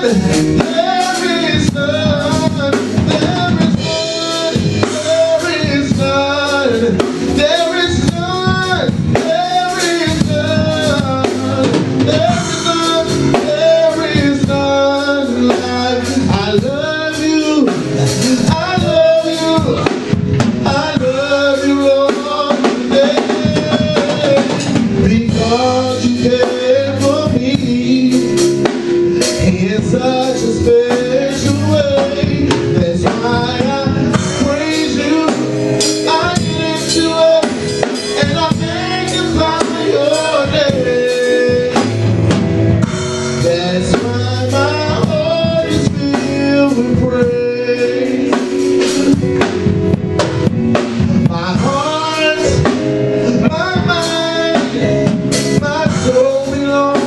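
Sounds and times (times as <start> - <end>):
band playing: 0.0 - 57.0
drum kit beat: 0.0 - 57.0
man singing into a microphone: 0.0 - 57.0.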